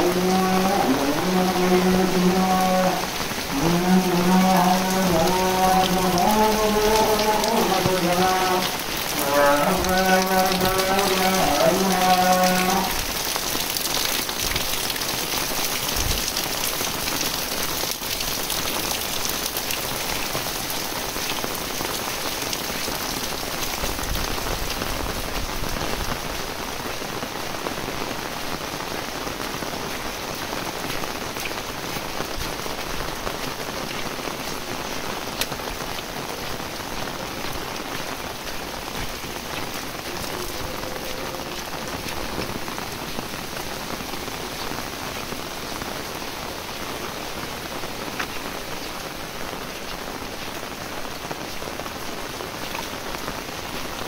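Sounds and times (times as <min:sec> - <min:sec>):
heavy rain on roofs: 0:00.0 - 0:54.0.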